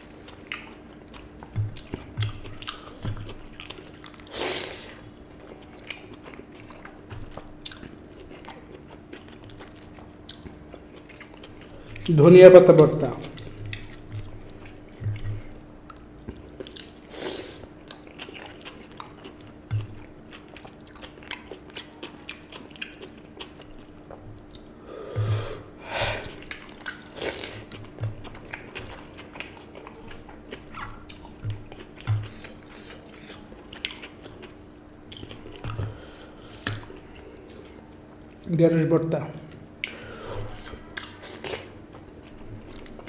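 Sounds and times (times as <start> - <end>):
chewing and mouth smacks: 0.1 - 12.1, 13.1 - 24.8, 26.2 - 38.5, 39.5 - 43.0.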